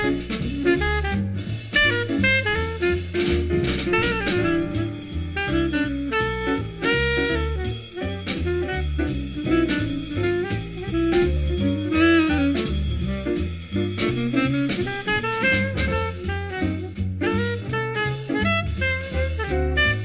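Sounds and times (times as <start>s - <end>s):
drum kit: 0.0s - 20.0s
saxophone melody: 0.0s - 20.0s
walking bass line: 0.0s - 20.0s.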